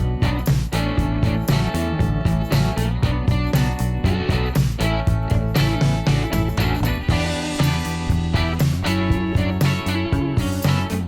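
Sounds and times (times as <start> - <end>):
music with steady beat: 0.0 - 11.0
strummed guitar: 0.0 - 11.0.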